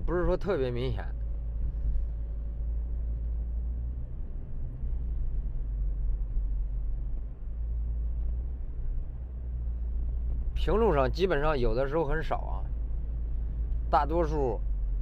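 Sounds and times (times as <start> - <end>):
road and drivetrain rumble: 0.0 - 15.0.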